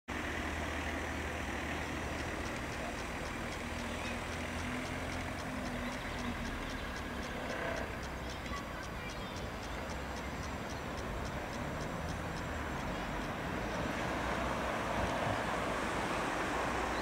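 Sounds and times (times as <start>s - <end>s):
engine-like drone: 0.1s - 17.0s
fast high ticking: 0.1s - 17.0s
street traffic hum: 0.1s - 17.0s.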